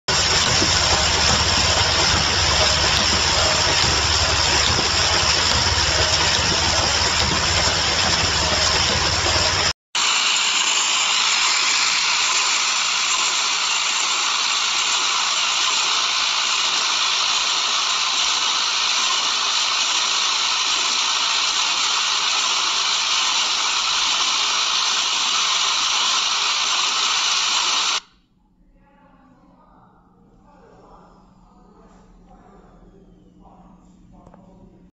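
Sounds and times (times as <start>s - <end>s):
machine mechanical whir and hiss: 0.1s - 28.1s.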